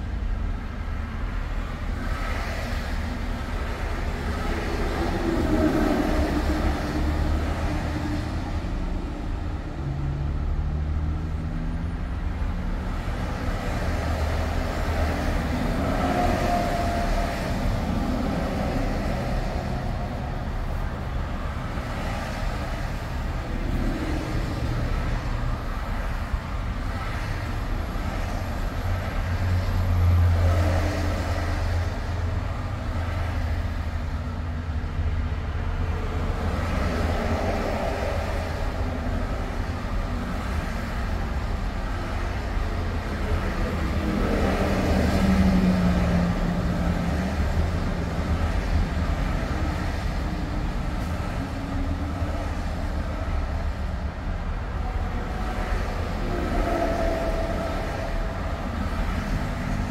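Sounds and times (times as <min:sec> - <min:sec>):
road rumble: 0:00.0 - 0:59.9.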